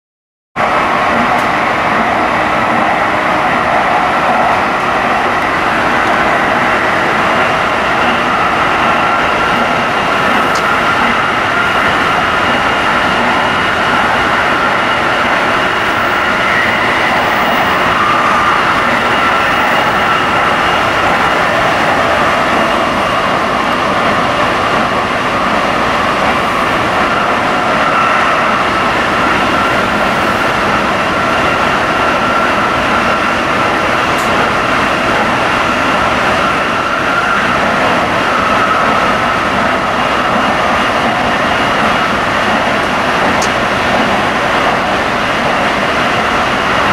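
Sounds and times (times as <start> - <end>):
train wheels rumbling on rail: 0.6 - 46.9.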